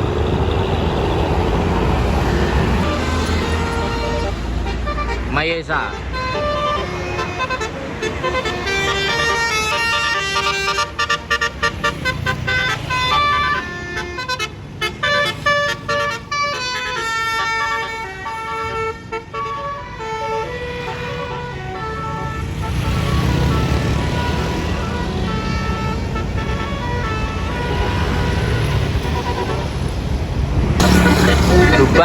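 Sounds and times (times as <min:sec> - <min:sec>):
multi-tone bus horn melody: 0:00.0 - 0:30.2, 0:30.8 - 0:32.0
bus engine rumbling: 0:00.0 - 0:32.0.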